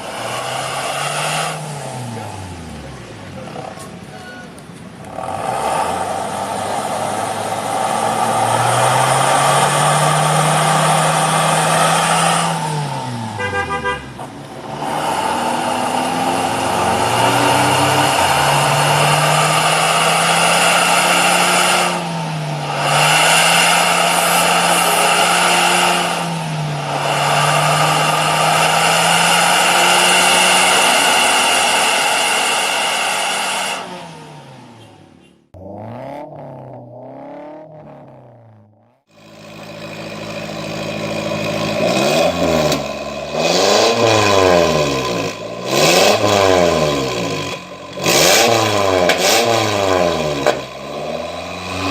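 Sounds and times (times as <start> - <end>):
engine revving with exhaust hiss: 0.0 - 3.8, 5.0 - 38.5, 39.1 - 51.9.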